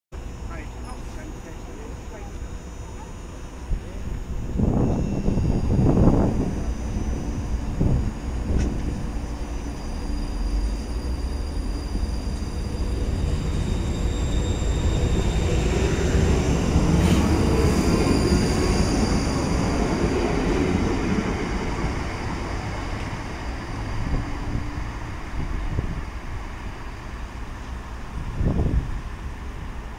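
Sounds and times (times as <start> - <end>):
train wheels rumbling on rails: 0.2 - 29.9.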